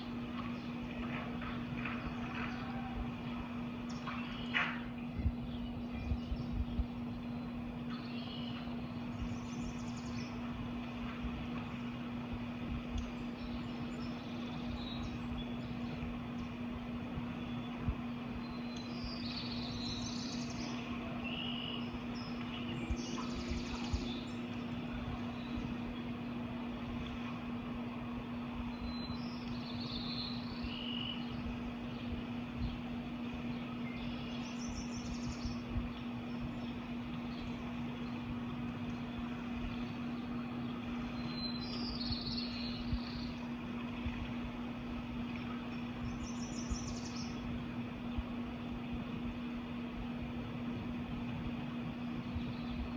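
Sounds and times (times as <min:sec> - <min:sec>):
birds chirping: 0:00.0 - 0:48.6, 0:51.0 - 0:52.9
constant low hum: 0:00.0 - 0:52.9
noisy background: 0:00.0 - 0:52.9.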